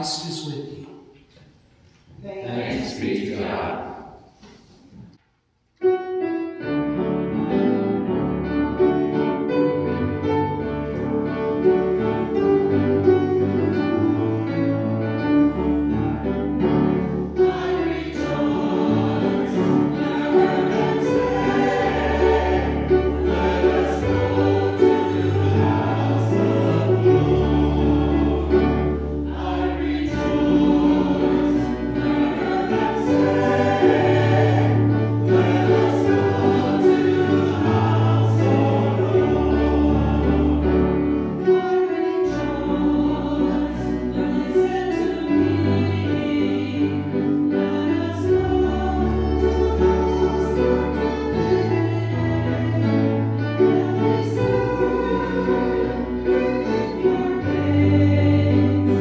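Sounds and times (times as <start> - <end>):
instrumental accompaniment: 5.8 - 59.0
choir singing: 5.9 - 59.0.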